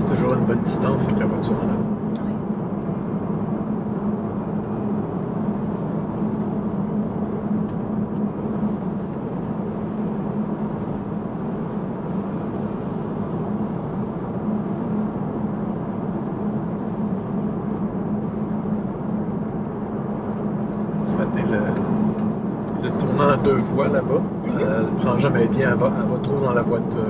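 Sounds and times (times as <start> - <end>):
constant low drone: 0.0 - 27.0
road and tyre noise: 0.0 - 27.0.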